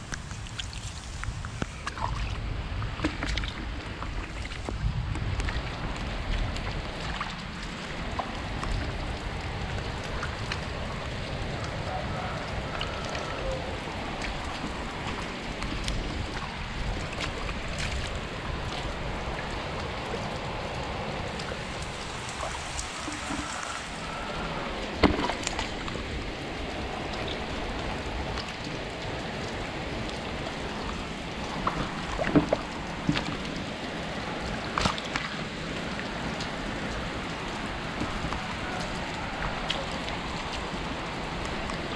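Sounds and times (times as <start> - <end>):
rain on flowing water: 0.0 - 41.9.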